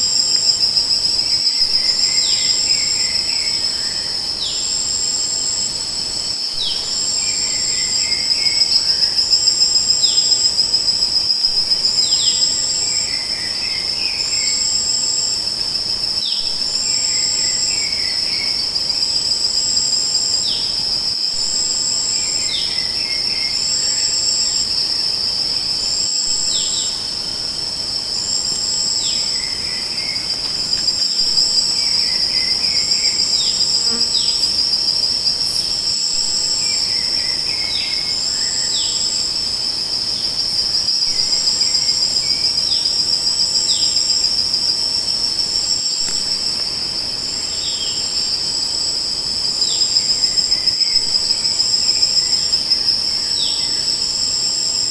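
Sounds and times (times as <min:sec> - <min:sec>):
insect chorus trilling: 0:00.0 - 0:54.9
pulsing insect calls: 0:00.0 - 0:54.9.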